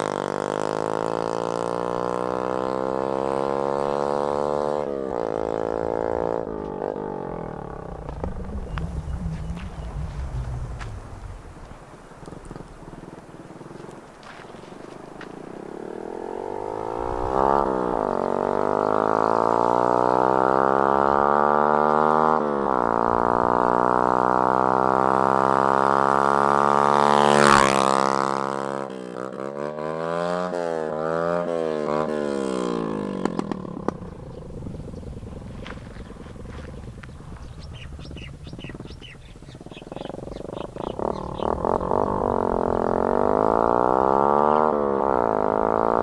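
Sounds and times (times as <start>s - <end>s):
motorcycle accelerating past: 0.0s - 46.0s.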